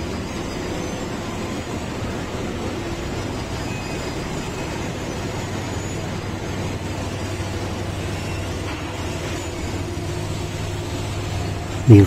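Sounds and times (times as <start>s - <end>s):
continuous machinery noise: 0.0s - 12.0s
machine engine drone: 0.0s - 12.0s.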